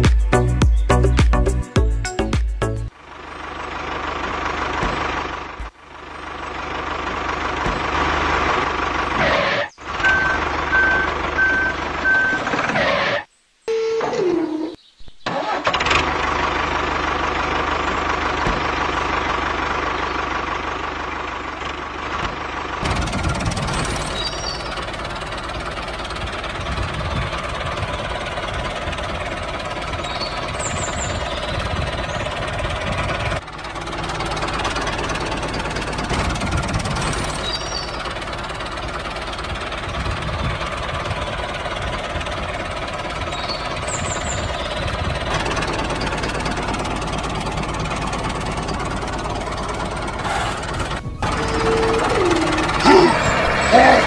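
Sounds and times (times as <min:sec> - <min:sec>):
diesel tractor engine knocking: 0:00.0 - 0:12.7, 0:15.5 - 0:54.0.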